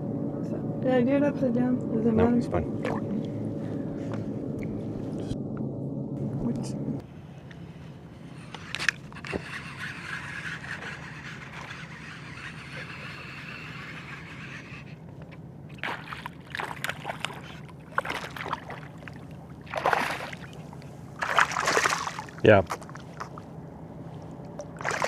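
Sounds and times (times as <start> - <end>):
steady low hum: 0.0 - 25.0
water sloshing from wading: 2.6 - 5.1, 7.4 - 25.0.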